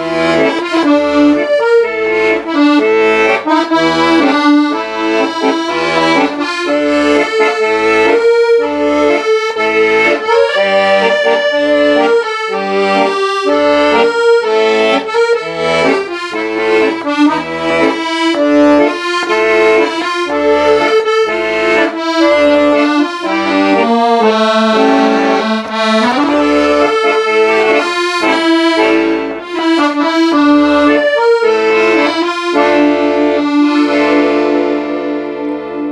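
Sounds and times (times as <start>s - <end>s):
accordion melody with pulsing bass: 0.0s - 35.9s.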